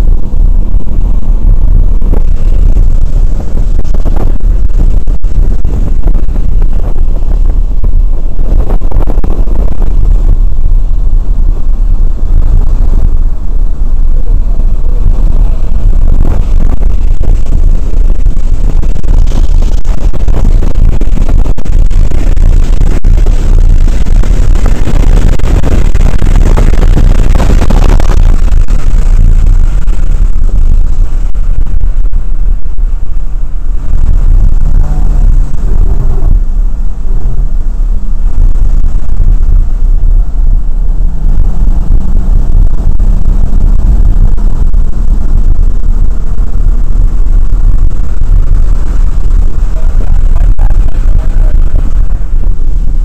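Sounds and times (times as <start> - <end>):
car engine low rumble: 0.0 - 53.0.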